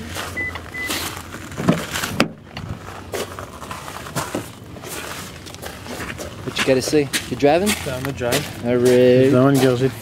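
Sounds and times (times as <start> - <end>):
rustling handling noise: 0.0 - 9.8.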